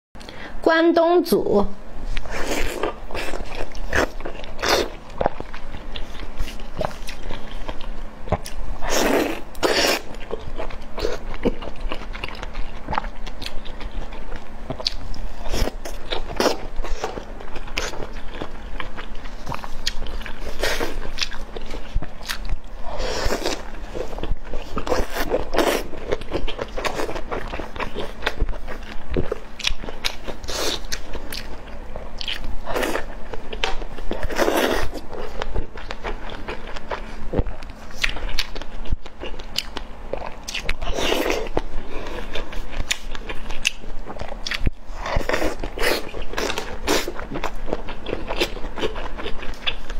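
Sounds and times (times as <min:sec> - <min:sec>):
person chewing: 0:02.1 - 0:49.9.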